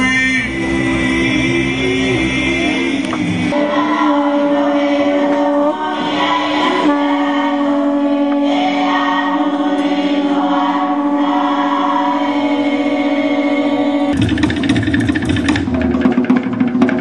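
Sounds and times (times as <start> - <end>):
person chanting a long note: 0.0 - 14.2.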